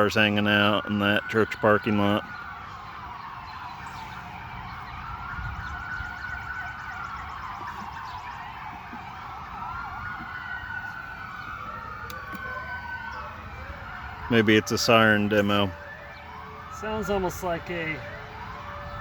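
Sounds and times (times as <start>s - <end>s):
emergency sirens wailing: 0.0s - 19.0s.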